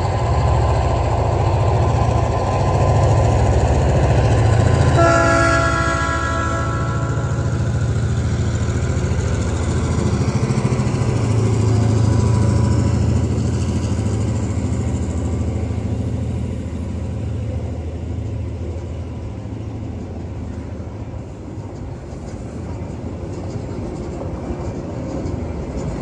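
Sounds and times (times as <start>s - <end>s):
locomotive engine drone: 0.0s - 26.0s
train wagons rolling: 0.0s - 26.0s.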